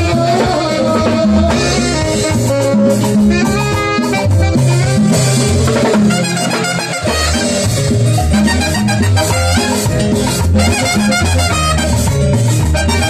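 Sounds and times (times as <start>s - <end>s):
bass line: 0.0s - 13.0s
hand percussion: 0.0s - 13.0s
latin dance band playing: 0.0s - 13.0s.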